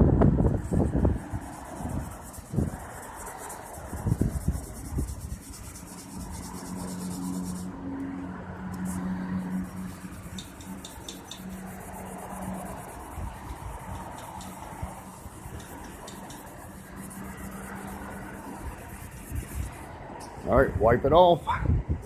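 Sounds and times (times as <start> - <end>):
wet sandpaper rubbing on metal: 0.4 - 7.8, 8.6 - 20.1.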